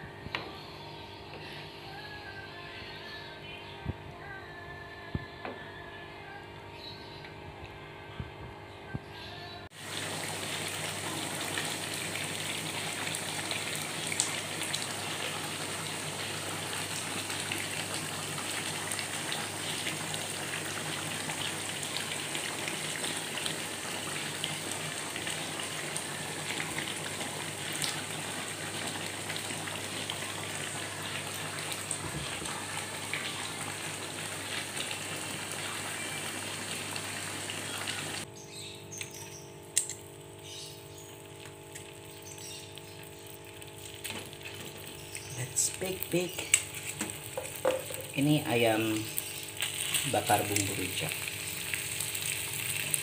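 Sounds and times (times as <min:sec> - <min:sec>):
sauce sizzling and bubbling in pan: 0:09.7 - 0:53.0.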